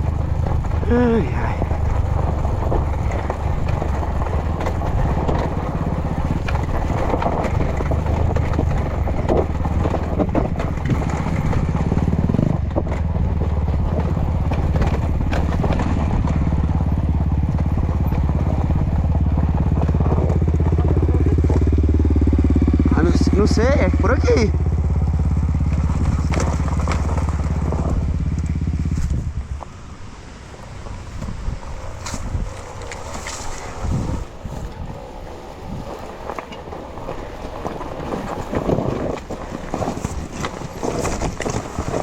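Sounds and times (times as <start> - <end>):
motorcycle engine running: 0.0 - 42.0
knocks and clatters: 1.5 - 29.7, 36.3 - 42.0.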